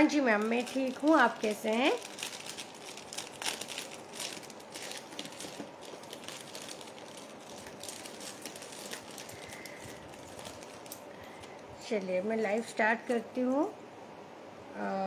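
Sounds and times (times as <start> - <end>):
faint crinkling and rustling: 0.0 - 12.7.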